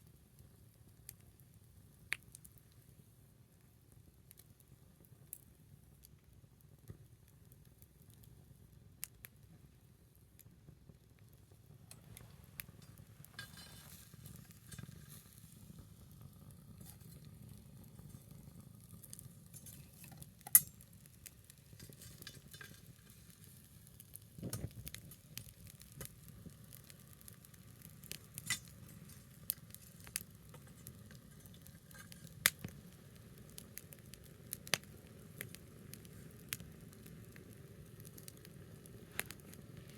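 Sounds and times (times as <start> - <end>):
burning wood popping: 0.0 - 39.9
wood fire crackling: 0.0 - 39.9.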